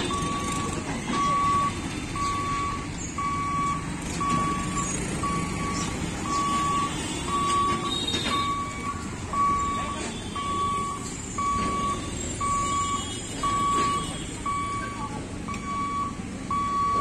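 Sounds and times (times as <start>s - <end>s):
level-crossing warning beeps: 0.0s - 17.0s
motorbikes rumbling: 0.0s - 17.0s.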